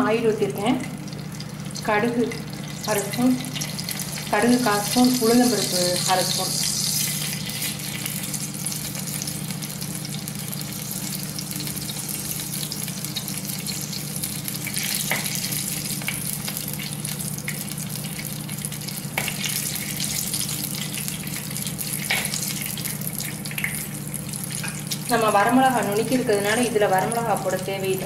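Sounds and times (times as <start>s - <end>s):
hot oil sizzling: 0.8s - 28.0s.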